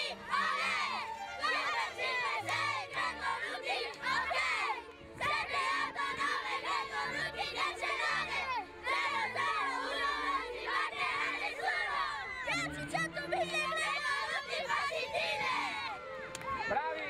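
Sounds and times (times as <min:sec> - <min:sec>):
children shouting and cheering: 0:00.0 - 0:17.0
music playing: 0:00.0 - 0:17.0.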